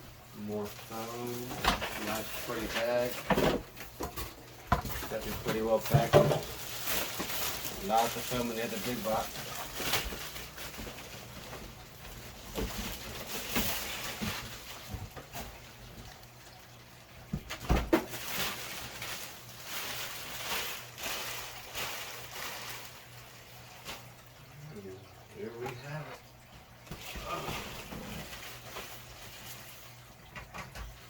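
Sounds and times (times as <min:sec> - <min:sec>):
rustling foam and plastic: 0:00.0 - 0:24.4, 0:25.1 - 0:31.0.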